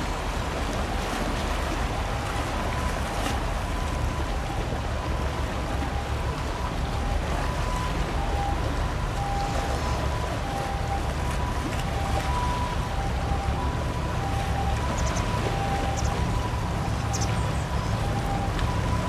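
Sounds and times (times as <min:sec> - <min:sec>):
boat engine rumble: 0:00.0 - 0:19.0
water rushing from bow wave: 0:00.0 - 0:19.0.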